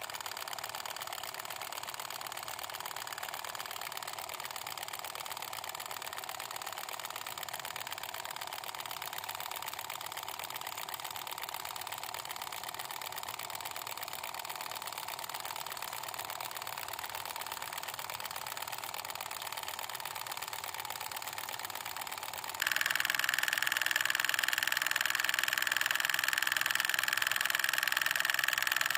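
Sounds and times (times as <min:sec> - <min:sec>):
small pump motor buzzing: 0:00.0 - 0:28.9.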